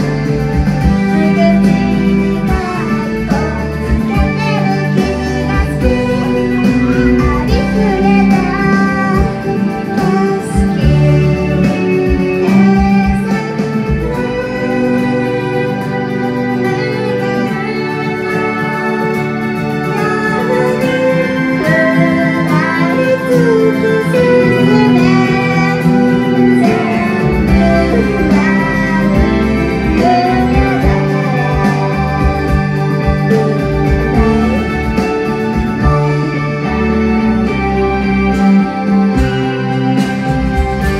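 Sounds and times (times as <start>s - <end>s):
woman singing into microphone: 0.0s - 39.4s
acoustic guitar: 0.0s - 40.9s.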